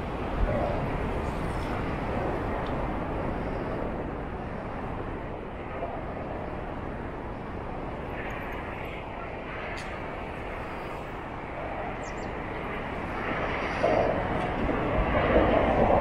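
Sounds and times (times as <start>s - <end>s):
bicycle rolling road noise: 0.0s - 16.0s
wind over microphone: 0.0s - 16.0s.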